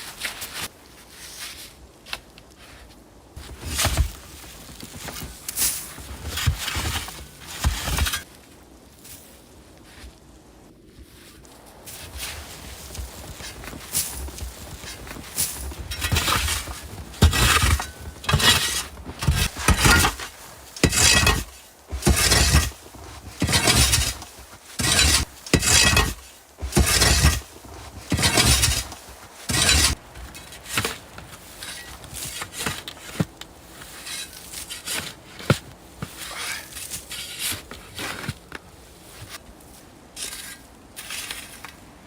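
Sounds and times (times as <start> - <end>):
footsteps crunching through snow: 0.0 - 40.1.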